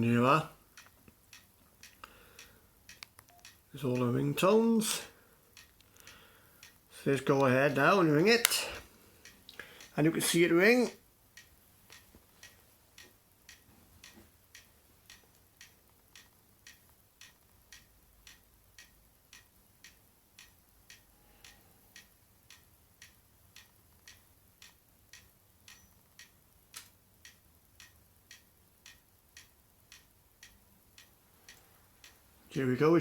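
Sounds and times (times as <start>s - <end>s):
faint regular ticking: 0.0s - 33.0s.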